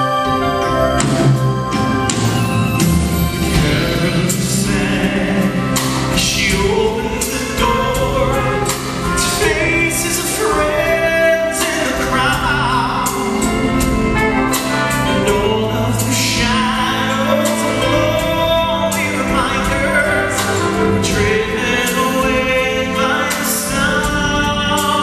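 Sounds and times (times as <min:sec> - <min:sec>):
instrumental accompaniment: 0:00.0 - 0:25.0
man singing a ballad: 0:03.4 - 0:14.0, 0:15.0 - 0:25.0.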